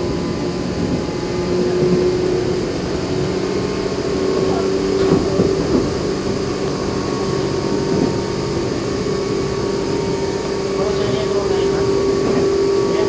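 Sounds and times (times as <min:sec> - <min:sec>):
electric train motor hum: 0:00.0 - 0:13.0
train wheels rolling on rails: 0:00.0 - 0:13.0.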